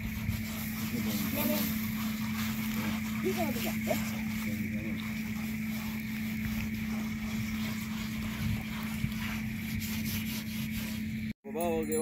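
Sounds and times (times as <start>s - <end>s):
hands scrubbing water in pan: 0.0s - 11.3s
steady low hum: 0.0s - 12.0s.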